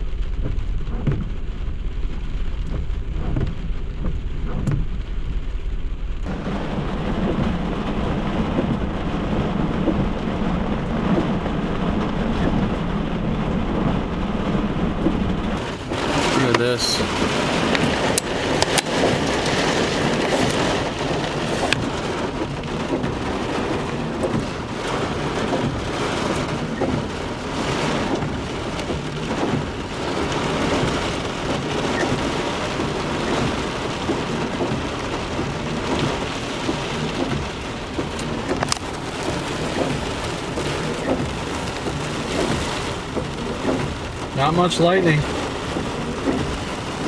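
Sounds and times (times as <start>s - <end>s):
gusty wind buffeting microphone: 0.0s - 44.3s
low rumble: 0.0s - 44.4s
heavy rain: 0.0s - 47.0s.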